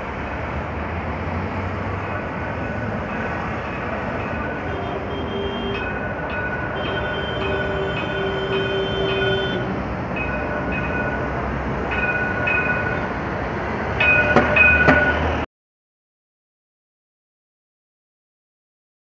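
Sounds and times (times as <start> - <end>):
busy street traffic: 0.0 - 15.5.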